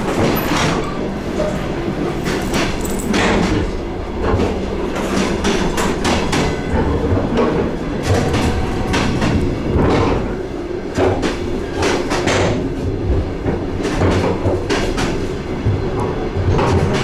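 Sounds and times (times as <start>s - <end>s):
train wheels clacking over rail joints: 0.0s - 17.0s.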